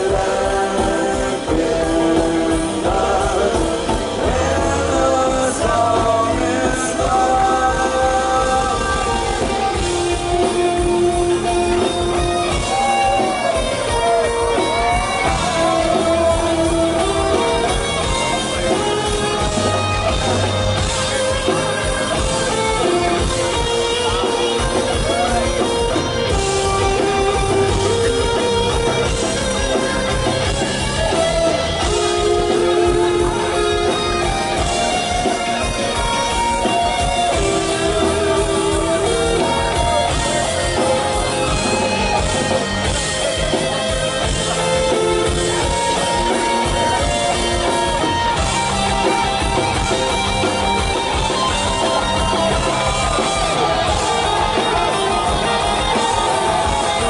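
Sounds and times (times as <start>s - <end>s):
live rock band: 0.0s - 57.0s.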